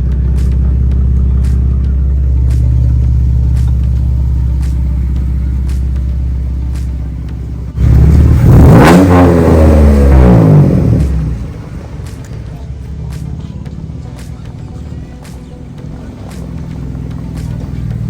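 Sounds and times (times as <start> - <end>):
car engine running and revving: 0.0 - 18.0.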